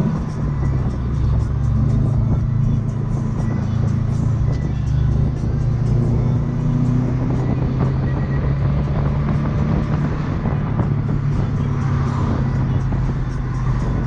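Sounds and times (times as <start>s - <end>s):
car engine drone from cabin: 0.0s - 14.0s.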